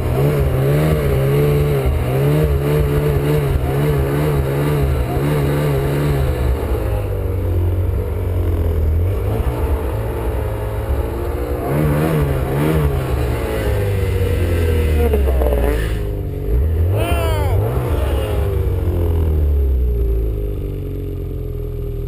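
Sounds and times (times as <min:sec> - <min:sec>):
snowmobile engine revving: 0:00.0 - 0:20.6.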